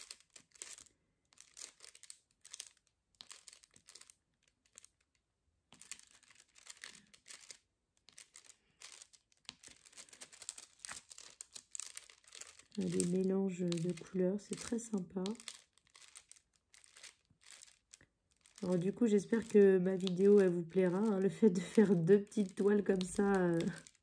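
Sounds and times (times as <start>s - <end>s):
plastic crinkling: 0.0s - 24.0s.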